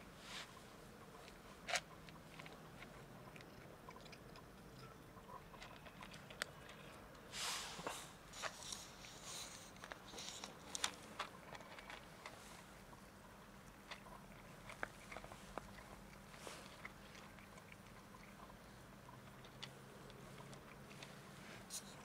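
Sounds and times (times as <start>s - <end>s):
cat crunching dry kibble: 1.2s - 4.4s, 5.3s - 7.0s, 8.4s - 22.0s.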